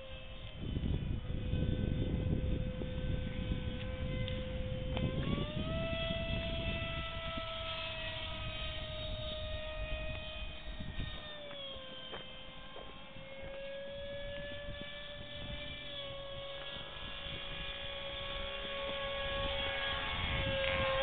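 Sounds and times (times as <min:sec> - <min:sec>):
low rumbling noise: 0:00.0 - 0:21.0
model airplane motor whining: 0:00.0 - 0:21.0.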